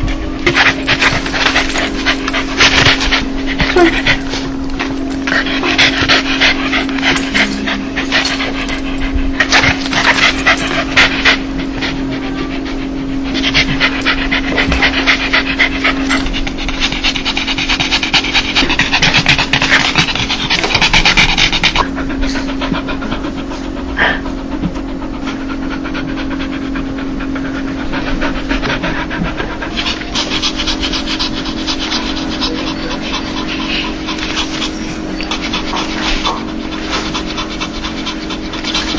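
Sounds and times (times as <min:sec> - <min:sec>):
dog panting: 0:00.0 - 0:38.9
low hum: 0:00.0 - 0:38.9.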